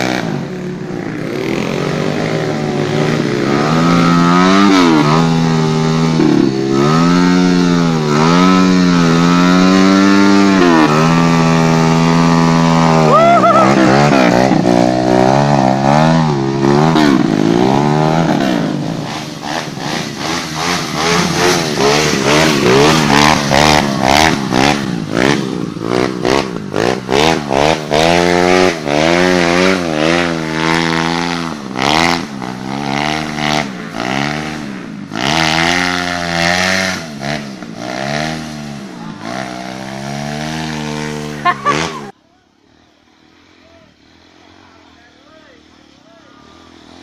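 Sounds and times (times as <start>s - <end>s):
motorcycle engine revving: 0.0s - 42.2s, 43.1s - 47.0s.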